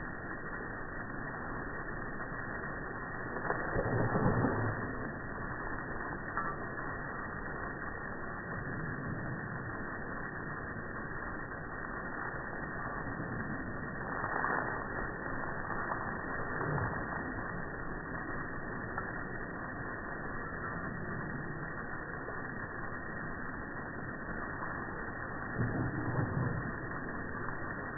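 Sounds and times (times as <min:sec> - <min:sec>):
slowed water spray rushing: 0:00.0 - 0:27.9.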